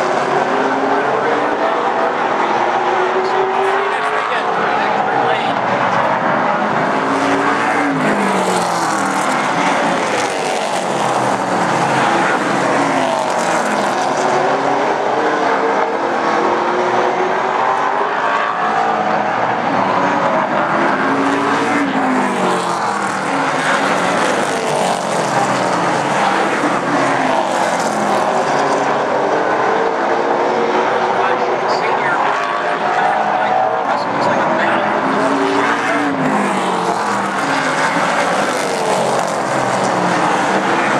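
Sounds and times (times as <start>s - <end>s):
race car engines passing by: 0.0s - 40.9s.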